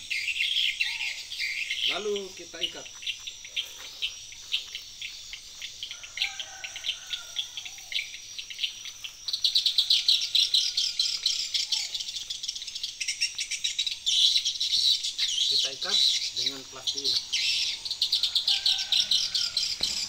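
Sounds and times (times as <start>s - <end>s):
insect buzz: 0.0s - 20.0s
small birds chirping: 0.0s - 20.0s.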